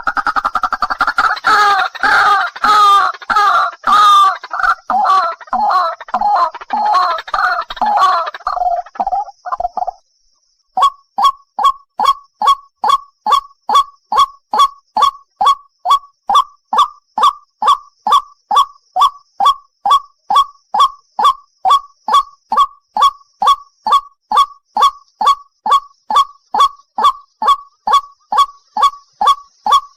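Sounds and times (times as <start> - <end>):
waterhen calling: 0.0 - 10.0, 15.0 - 29.9.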